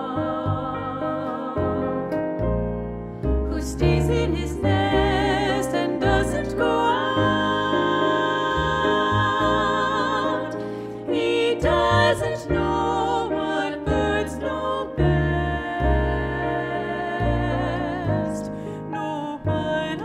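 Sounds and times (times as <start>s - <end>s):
women singing in harmony: 0.0s - 2.4s, 3.4s - 20.0s
double bass: 0.0s - 20.0s
piano: 0.0s - 20.0s.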